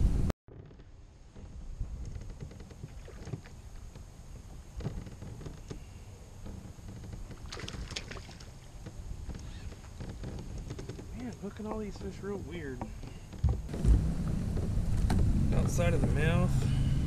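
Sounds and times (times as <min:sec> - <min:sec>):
kayak hull and water noise: 0:00.5 - 0:17.0.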